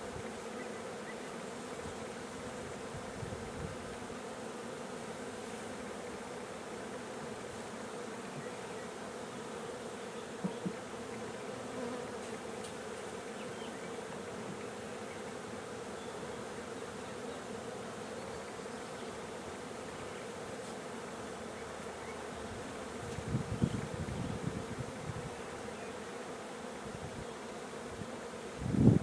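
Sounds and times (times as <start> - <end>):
bee swarm buzzing: 0.0 - 29.0.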